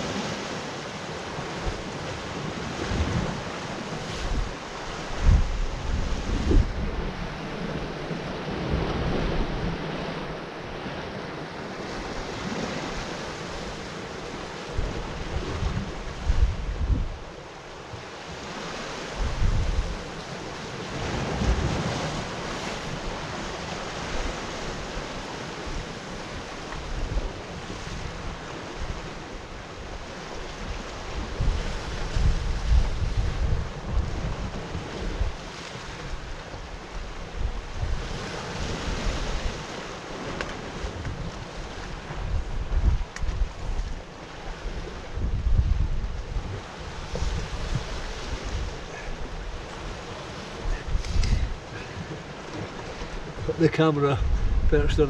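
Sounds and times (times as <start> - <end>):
waves washing against rocks: 0.0 - 55.0
wind buffeting microphone: 1.4 - 11.0, 14.7 - 17.4, 19.1 - 20.2, 20.8 - 55.0.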